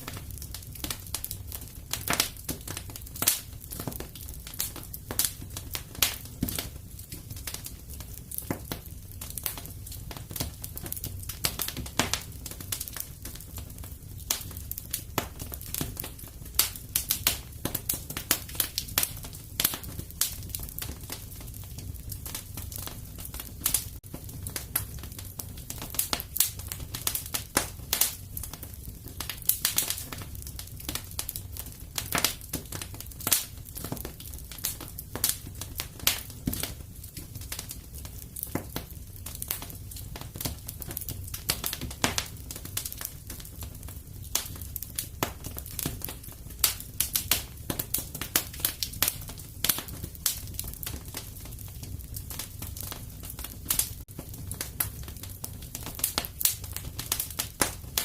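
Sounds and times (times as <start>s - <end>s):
fire crackling and popping: 0.0s - 58.0s
low rumble of burning fire: 0.0s - 58.0s.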